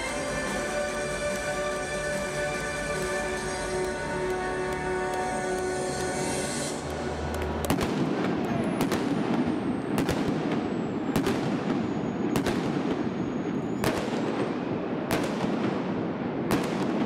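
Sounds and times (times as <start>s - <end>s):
fireworks bangs echoing: 0.0s - 17.0s.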